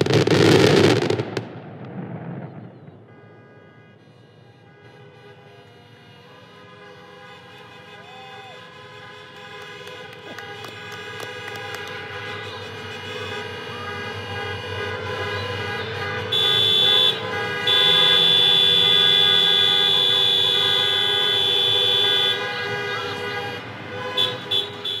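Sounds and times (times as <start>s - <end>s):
vehicle horns honking: 3.0s - 25.0s.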